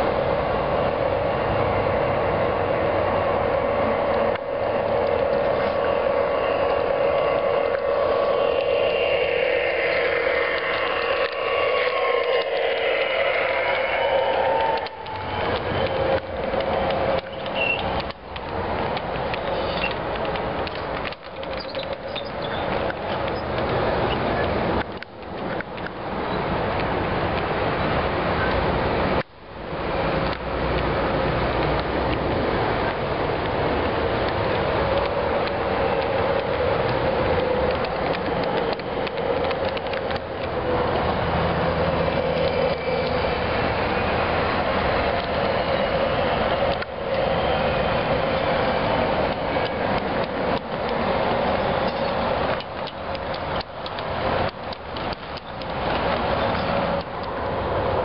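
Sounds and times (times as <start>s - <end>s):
model locomotive motor hum: 0.0s - 25.9s, 29.7s - 58.0s
metal wheels rumbling on track: 0.0s - 58.0s
scattered clicks: 3.3s - 58.0s.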